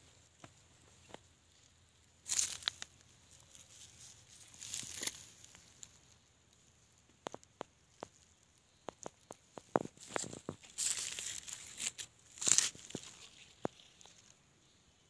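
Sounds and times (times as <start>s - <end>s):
dry grass and leaves rustling: 0.0s - 15.0s.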